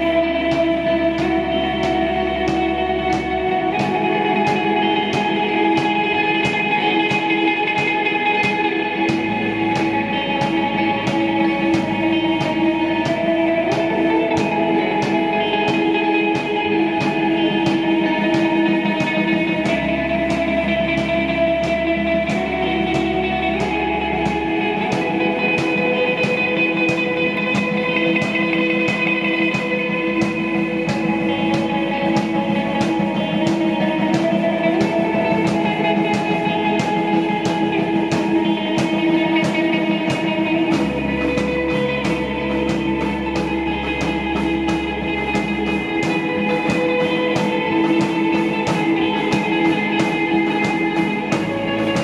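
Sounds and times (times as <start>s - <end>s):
drum kit beat on cymbals: 0.0s - 52.0s
electric bass: 0.0s - 52.0s
electric guitar long held notes: 0.0s - 52.0s.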